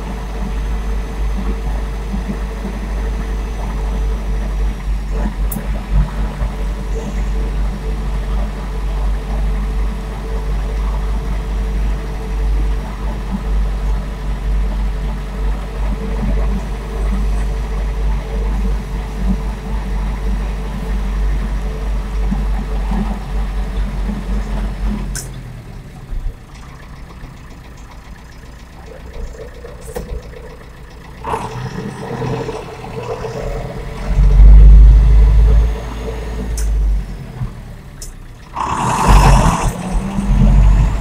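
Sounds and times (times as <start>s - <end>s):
tractor diesel engine: 0.0s - 41.0s.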